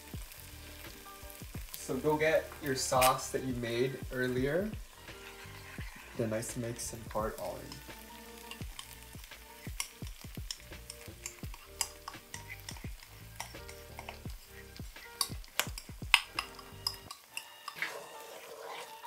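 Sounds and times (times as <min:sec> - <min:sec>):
sauce sizzling in a wok: 0:00.0 - 0:19.0
sharp crackles and pops: 0:00.0 - 0:19.0.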